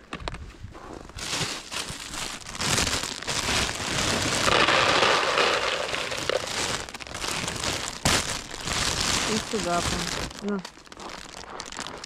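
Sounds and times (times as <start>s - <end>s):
rustling and crunching handling noise: 0.0s - 12.0s.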